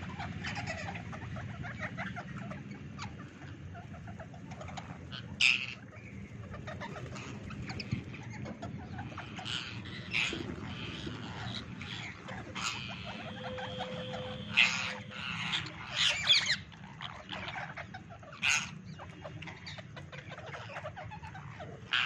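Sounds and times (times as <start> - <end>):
parakeet calls: 0.0 - 22.0.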